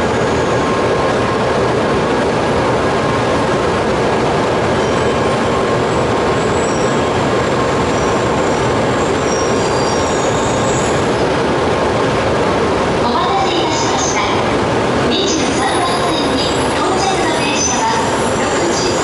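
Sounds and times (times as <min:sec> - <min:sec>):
train rumbling to a stop: 0:00.0 - 0:19.0.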